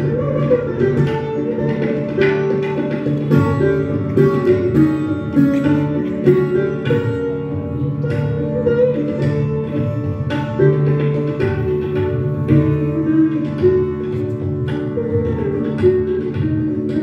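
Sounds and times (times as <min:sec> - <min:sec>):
sitar melody: 0:00.0 - 0:17.0
tabla: 0:00.0 - 0:17.0.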